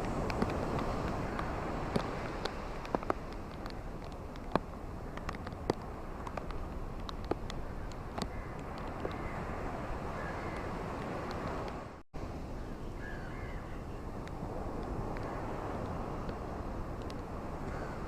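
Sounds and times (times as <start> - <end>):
ocean waves on a beach: 0.0 - 18.0.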